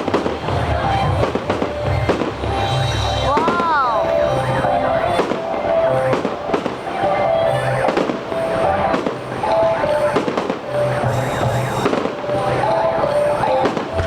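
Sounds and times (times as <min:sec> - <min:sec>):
fireworks bangs: 0:00.0 - 0:14.0
music playing: 0:00.0 - 0:14.0.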